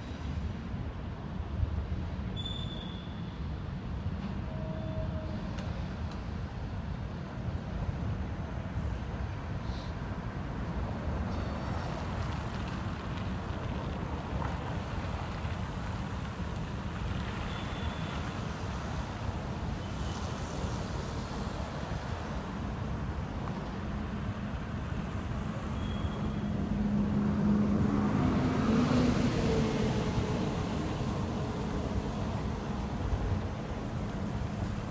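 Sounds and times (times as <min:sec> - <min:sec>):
road traffic rumble: 0:00.0 - 0:34.9
bus driving past: 0:05.0 - 0:34.9.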